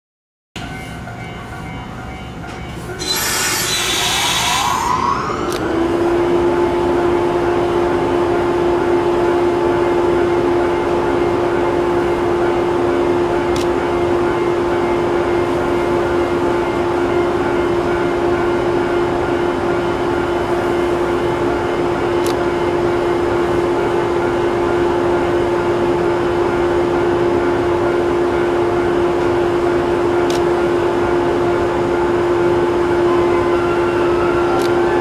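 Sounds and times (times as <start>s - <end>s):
electric train humming: 0.6s - 35.0s.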